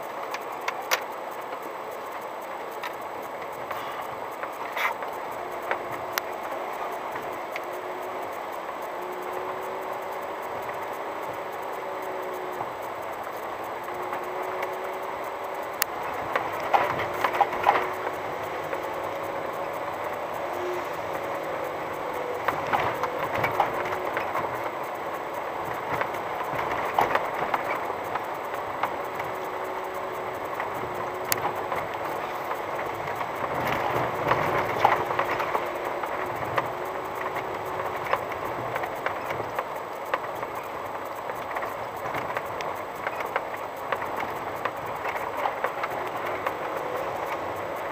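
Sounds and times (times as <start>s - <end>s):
van driving on gravel: 0.0s - 47.9s
rattling and knocking over bumps: 0.2s - 47.9s.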